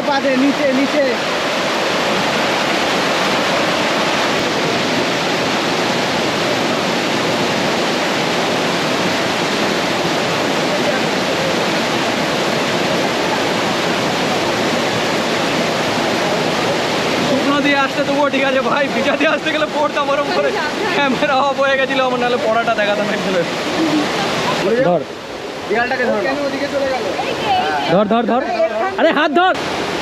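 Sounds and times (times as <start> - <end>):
waterfall splashing over rocks: 0.0 - 30.0.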